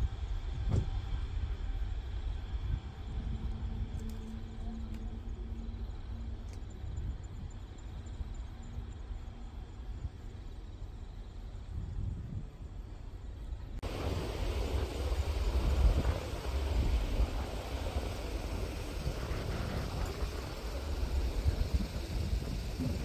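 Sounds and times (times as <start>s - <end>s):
jet engines rumbling on takeoff: 0.0s - 23.0s.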